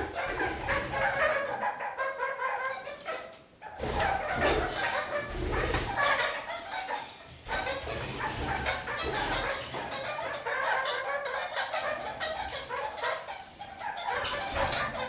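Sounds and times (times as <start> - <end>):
parakeets chattering: 0.0 - 15.0.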